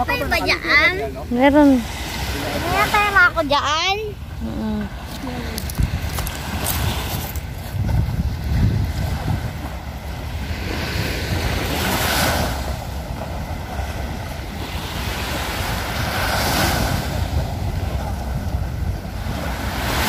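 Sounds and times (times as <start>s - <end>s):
small waves breaking on shore: 0.0s - 20.0s
wind rumble on microphone: 0.0s - 20.0s.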